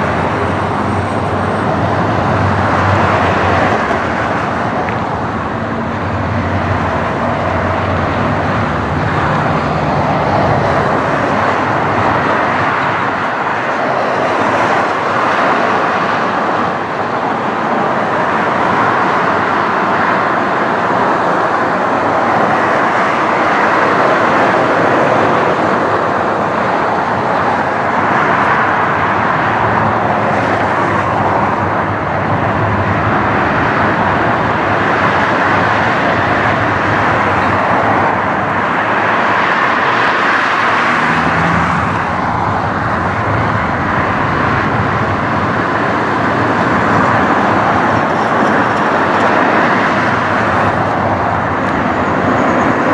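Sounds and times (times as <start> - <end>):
jet airliner engines running: 0.0 - 52.9.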